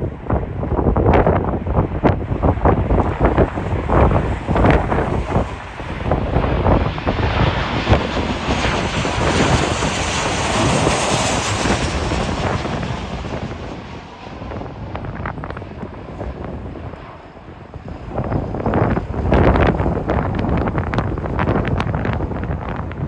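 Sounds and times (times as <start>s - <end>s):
jet airliner engines passing: 0.0s - 23.0s
wind buffeting microphone: 0.0s - 23.0s.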